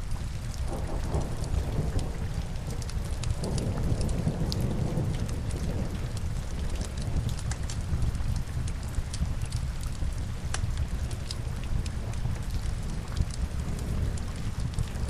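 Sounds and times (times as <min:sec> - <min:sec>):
sharp crackles: 0:00.0 - 0:15.0
steady rain: 0:00.0 - 0:15.0.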